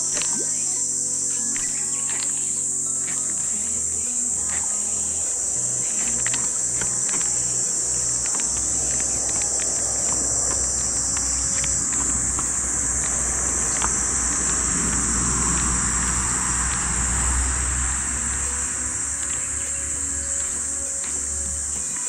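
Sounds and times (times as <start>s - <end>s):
insects chorus: 0.0s - 22.0s
low rumble: 1.7s - 22.0s.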